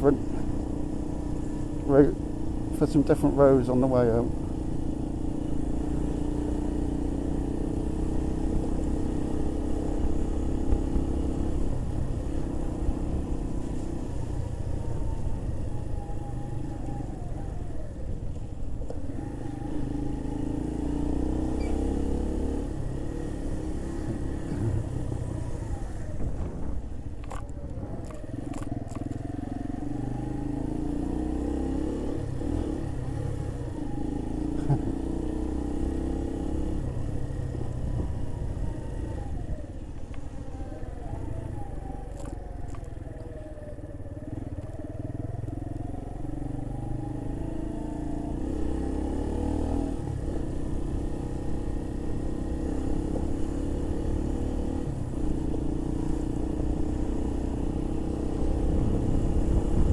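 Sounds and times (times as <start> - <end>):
motorcycle engine under way: 0.0 - 14.2, 16.0 - 59.9.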